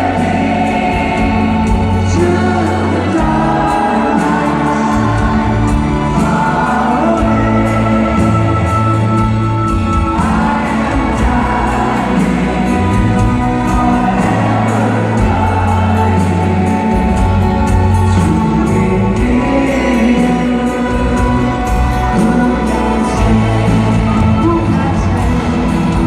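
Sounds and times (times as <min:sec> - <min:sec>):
choir-like singing: 0:00.0 - 0:26.0
live band playing slow song: 0:00.0 - 0:26.0.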